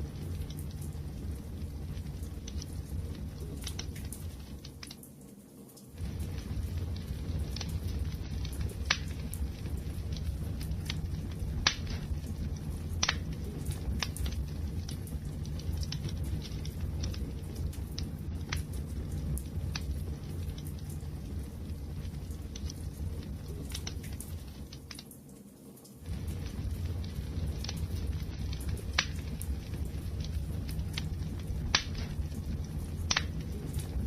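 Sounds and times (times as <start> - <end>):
low rumble of burning: 0.0 - 34.0
wood fire pops and snaps: 0.0 - 34.0.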